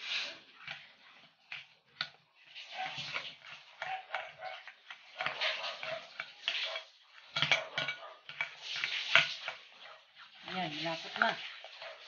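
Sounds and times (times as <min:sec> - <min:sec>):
spoon stirring batter in glass bowl: 0:00.0 - 0:12.0.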